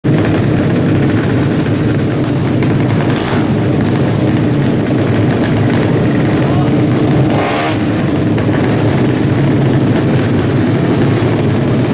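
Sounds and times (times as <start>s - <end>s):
motorcycle engines running loud: 0.0s - 11.9s.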